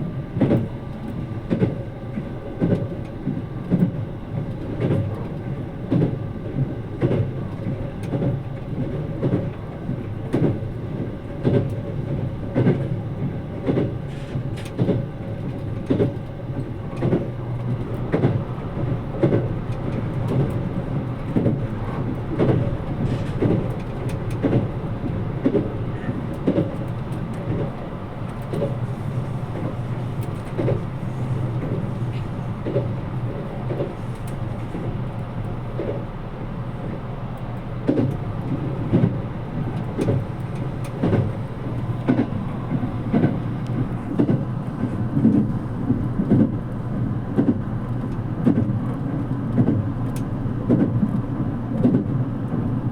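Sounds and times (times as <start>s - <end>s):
train rumbling inside carriage: 0.0s - 52.9s.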